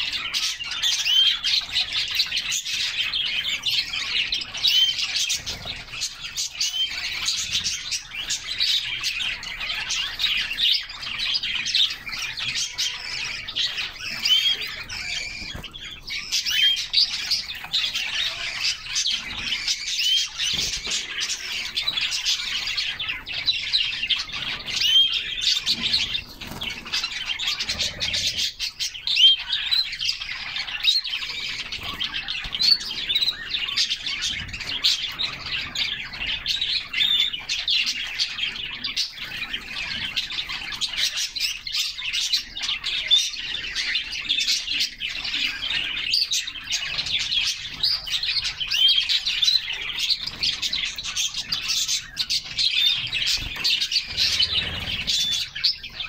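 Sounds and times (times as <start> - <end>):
canaries chirping and singing: 0.0 - 56.0.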